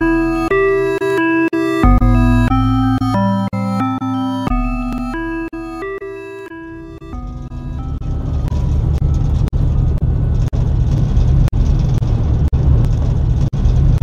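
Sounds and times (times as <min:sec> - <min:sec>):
ferry engine rumble: 0:00.0 - 0:14.0.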